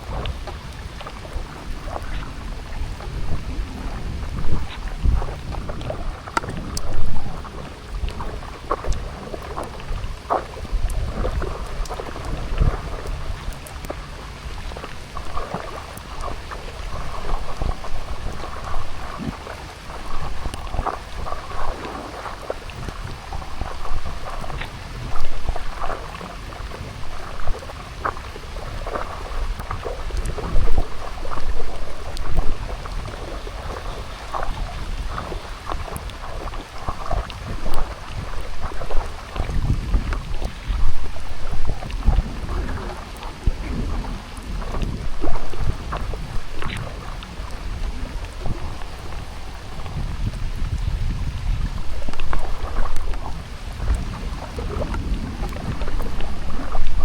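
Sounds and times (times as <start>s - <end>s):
low rumble: 0.0s - 57.0s
patters and splashes: 0.0s - 57.0s
rain falling: 0.0s - 57.0s.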